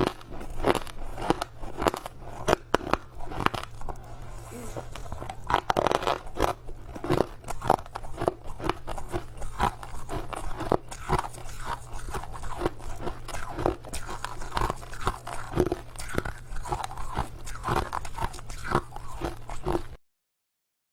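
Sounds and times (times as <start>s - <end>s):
crushed ice being chewed: 0.0s - 20.0s.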